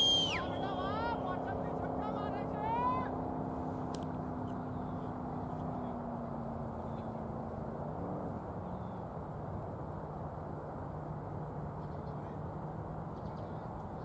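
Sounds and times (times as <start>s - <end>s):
outdoor background noise: 0.0s - 14.0s
steady engine hum: 0.0s - 14.0s.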